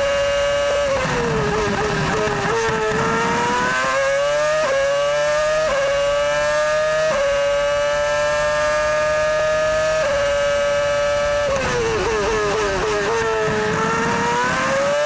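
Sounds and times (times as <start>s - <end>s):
racing car engine revving: 0.0s - 15.0s.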